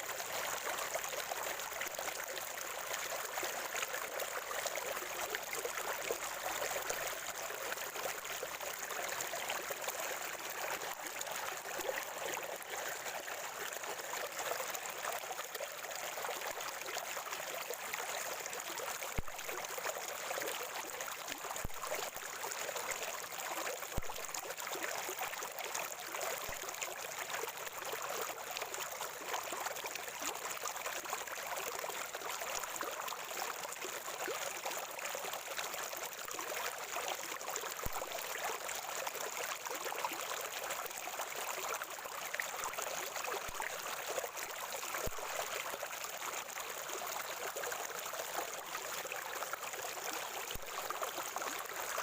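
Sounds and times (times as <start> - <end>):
spring water gurgling: 0.0 - 52.0.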